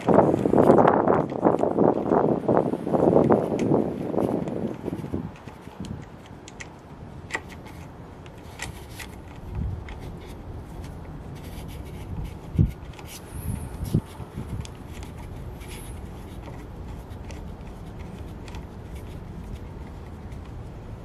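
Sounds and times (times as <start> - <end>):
hands rubbing and clicking: 0.0 - 21.0.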